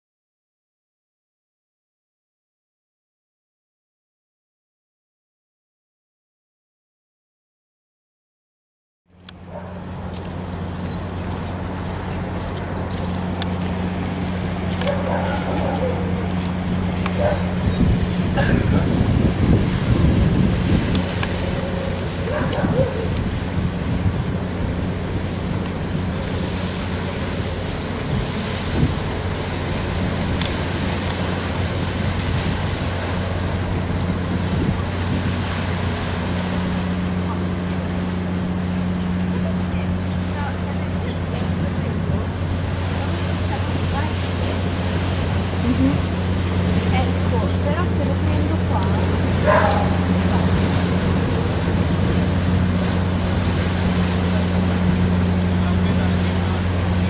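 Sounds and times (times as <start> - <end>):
ferry engine drone: 9.1 - 57.0
water noise: 9.1 - 57.0
wind: 9.1 - 57.0.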